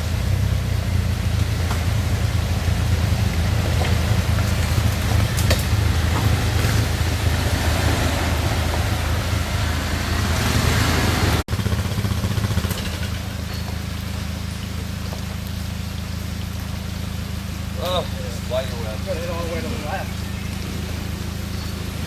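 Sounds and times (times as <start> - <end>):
engine running: 0.0 - 22.0
hiss of wind or water: 0.0 - 22.0.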